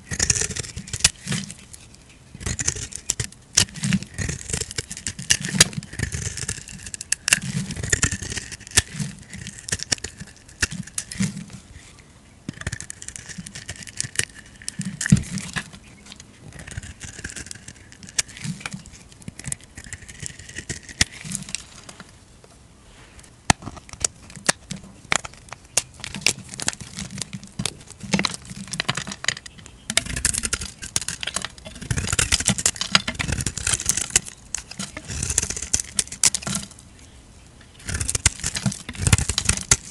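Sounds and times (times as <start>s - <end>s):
blade shaving soap: 0.0s - 1.8s, 2.4s - 11.7s, 12.5s - 21.8s, 23.6s - 36.8s, 37.7s - 39.9s
soap crackling: 0.0s - 11.9s, 12.5s - 22.1s, 23.0s - 36.8s, 37.6s - 39.9s.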